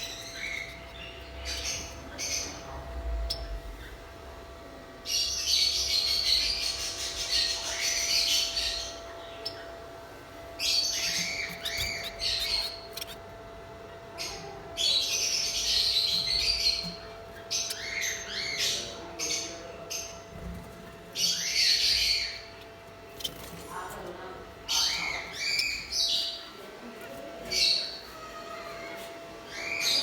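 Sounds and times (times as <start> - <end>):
budgerigars chattering and squawking: 0.0 - 4.1, 5.1 - 9.8, 10.6 - 13.3, 14.0 - 26.6, 27.4 - 28.5
faint steady hum: 0.0 - 30.0.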